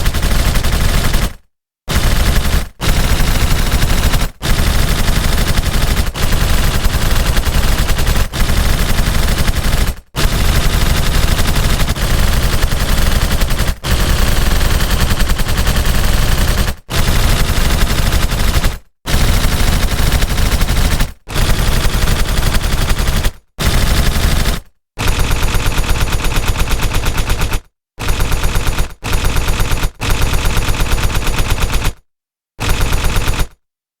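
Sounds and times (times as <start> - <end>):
machine gun firing in bursts: 0.0 - 32.0, 32.6 - 33.6.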